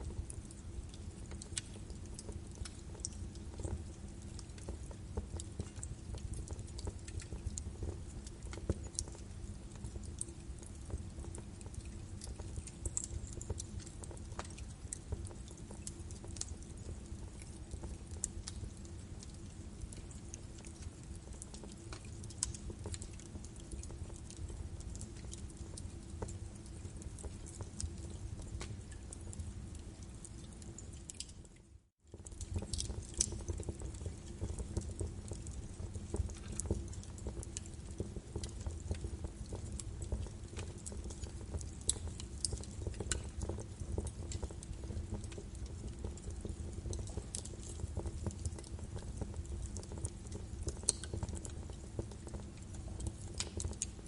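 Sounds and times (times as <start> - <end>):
faint steady hum: 0.0 - 54.0
wood fire crackling and popping: 0.0 - 54.0.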